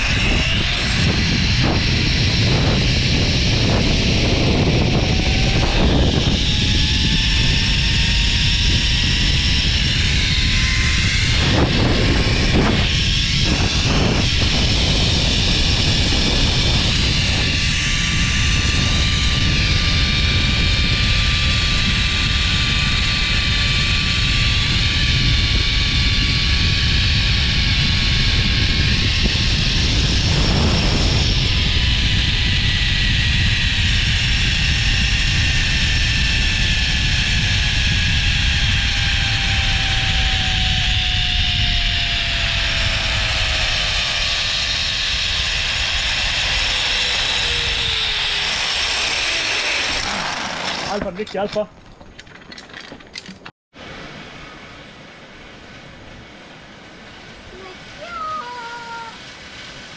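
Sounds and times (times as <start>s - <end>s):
pulley wheels whining on cable: 0.0s - 53.5s
wind rush on microphone: 0.0s - 59.9s.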